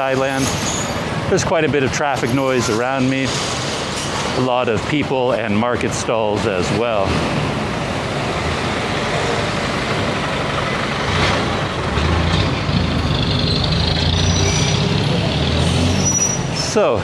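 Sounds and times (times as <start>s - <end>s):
heavy engine rumble: 0.0s - 17.0s
vehicle engines passing: 0.0s - 17.0s.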